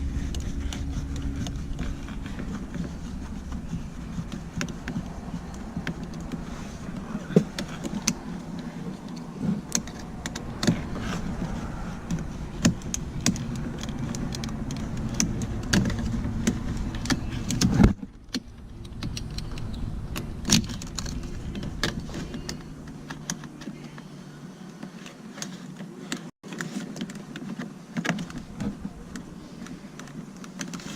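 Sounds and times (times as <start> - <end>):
steady low hum: 0.0 - 24.8, 28.1 - 30.9.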